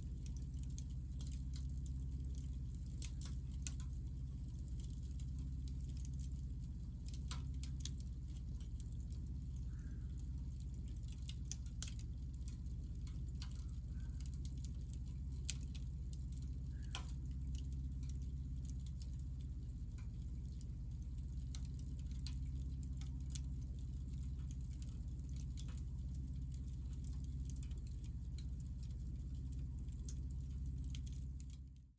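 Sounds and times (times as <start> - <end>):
burning wood crackling: 0.0 - 31.9
fire low rumble: 0.0 - 31.9.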